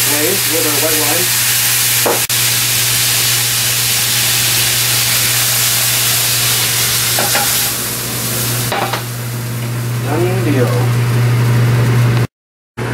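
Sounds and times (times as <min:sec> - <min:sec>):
wine hissing in hot skillet: 0:00.0 - 0:12.0.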